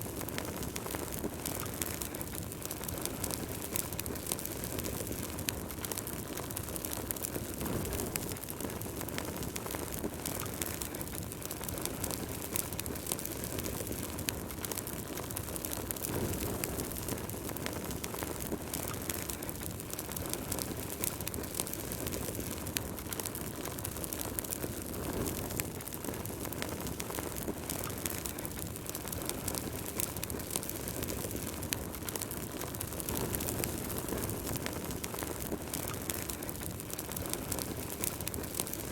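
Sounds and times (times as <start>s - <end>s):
flames rushing: 0.0s - 38.9s
wood fire crackling and popping: 0.0s - 38.9s.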